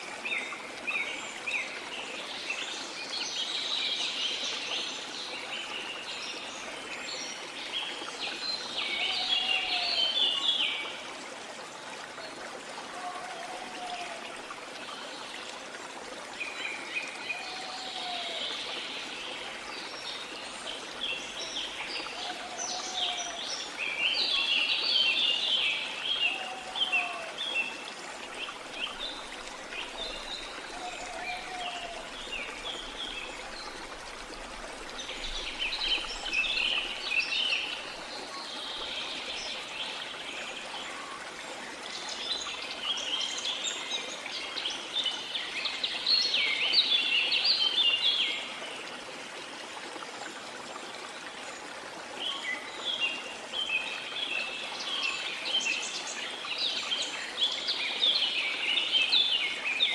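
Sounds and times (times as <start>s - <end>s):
water flowing: 0.0s - 59.9s.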